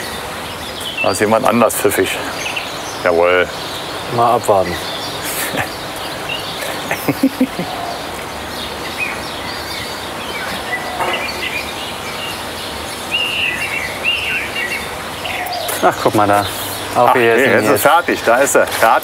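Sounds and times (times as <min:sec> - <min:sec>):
outdoor background hiss: 0:00.0 - 0:19.0
small birds chirping: 0:00.0 - 0:19.0.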